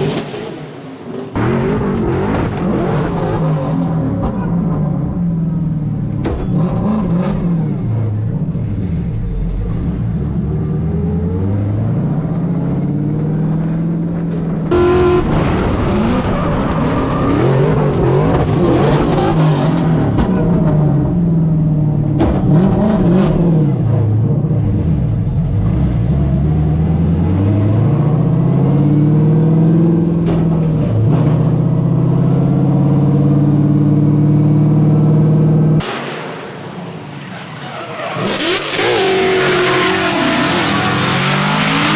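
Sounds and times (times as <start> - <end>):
car engine at high revs: 0.0 - 37.0, 38.0 - 41.9.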